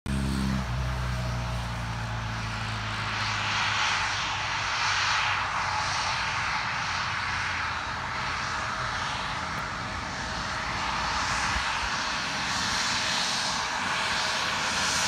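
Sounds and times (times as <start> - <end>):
jet engines roaring: 0.4 - 15.0.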